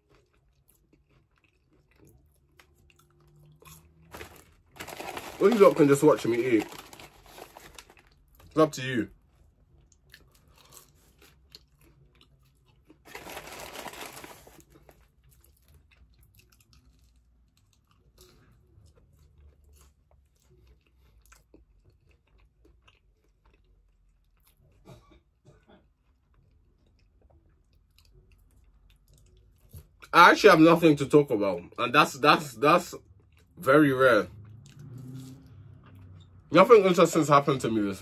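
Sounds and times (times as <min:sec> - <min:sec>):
person chewing fries: 0:00.0 - 0:30.1, 0:32.9 - 0:33.6, 0:34.4 - 0:36.9.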